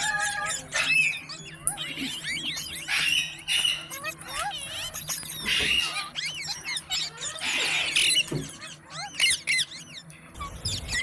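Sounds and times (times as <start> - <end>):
parakeets chirping and screeching: 0.0 - 11.0.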